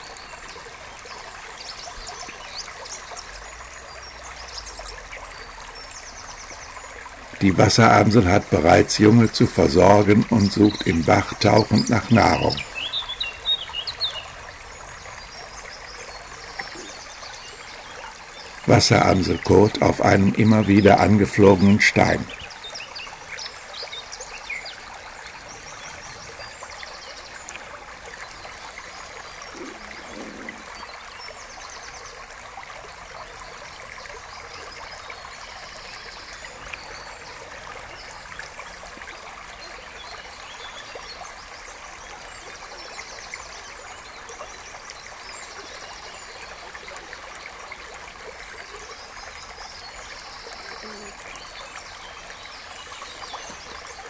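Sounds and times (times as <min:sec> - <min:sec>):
brook running: 0:00.0 - 0:54.0.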